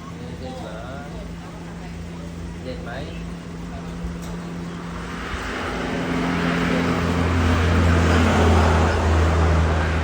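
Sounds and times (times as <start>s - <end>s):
road noise: 0.0s - 10.0s
vehicle engine humming: 0.0s - 10.0s.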